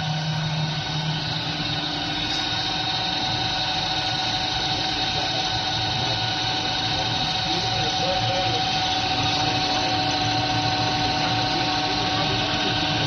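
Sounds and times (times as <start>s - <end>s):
boring machine humming: 0.0s - 13.0s.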